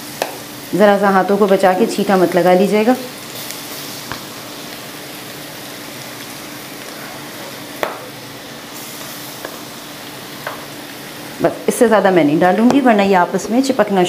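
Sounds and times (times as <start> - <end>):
batter sizzling in hot oil: 0.0 - 14.0.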